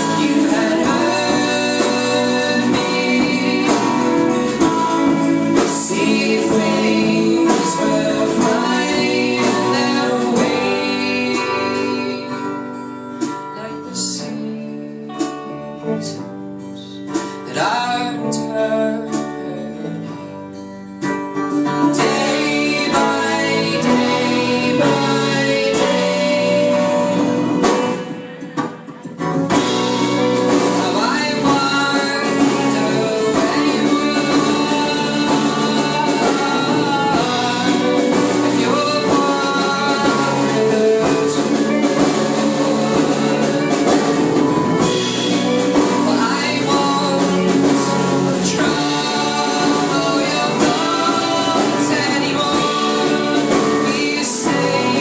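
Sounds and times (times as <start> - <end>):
folk band playing: 0.0 - 55.0
person singing: 0.0 - 55.0.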